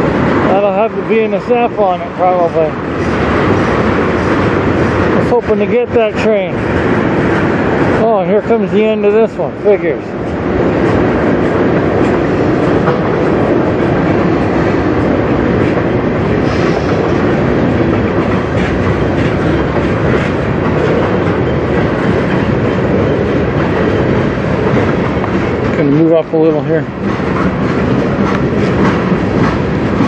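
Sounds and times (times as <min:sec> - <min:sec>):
steel wheels rumbling on rail: 0:00.0 - 0:30.0.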